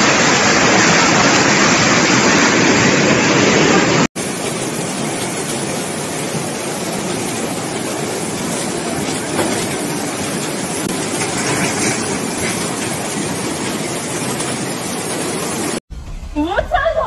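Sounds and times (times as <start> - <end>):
floodwater rushing: 0.0 - 15.8.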